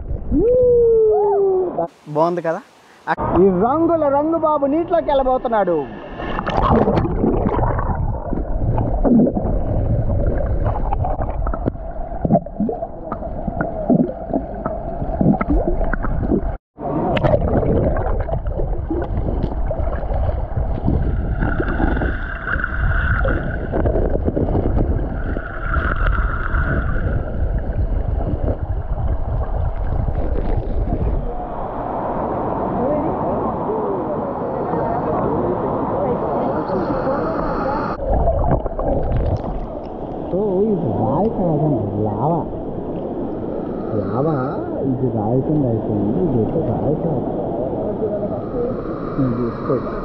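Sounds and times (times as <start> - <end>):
muffled underwater river rushing: 0.0 - 50.0.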